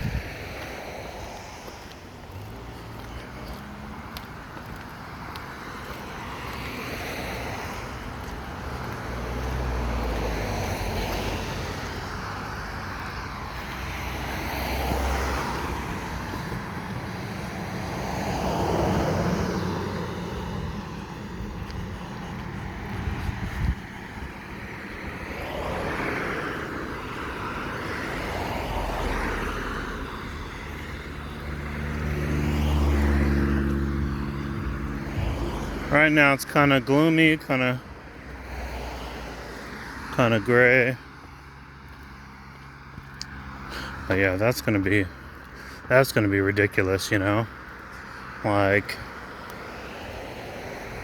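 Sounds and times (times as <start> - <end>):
cars passing: 0.0 - 51.0.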